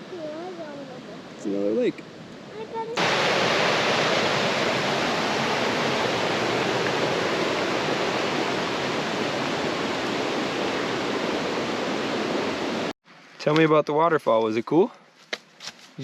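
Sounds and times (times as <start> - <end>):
small waterfall roaring: 0.0 - 12.9.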